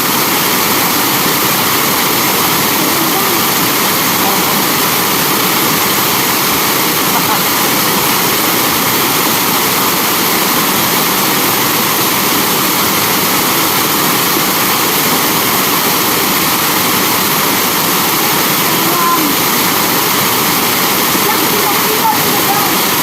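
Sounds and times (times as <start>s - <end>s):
waterfall pouring into pool: 0.0s - 23.0s.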